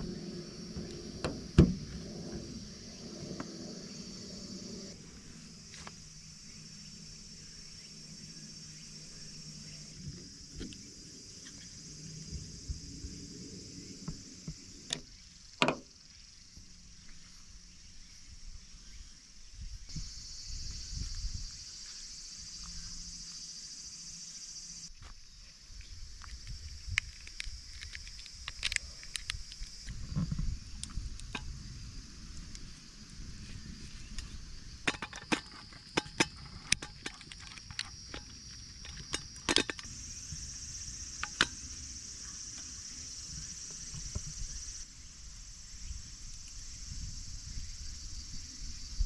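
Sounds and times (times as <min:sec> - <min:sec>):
insects buzzing: 0:00.0 - 0:49.0.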